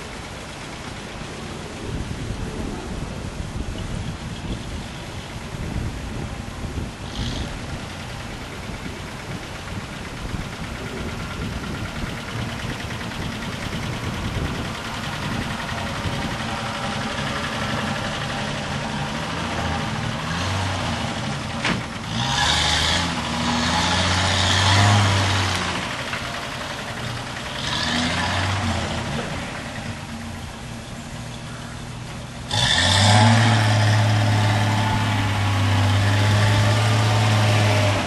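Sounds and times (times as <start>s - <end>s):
rushing noise: 0.0s - 38.0s
car engine revving: 7.0s - 38.0s.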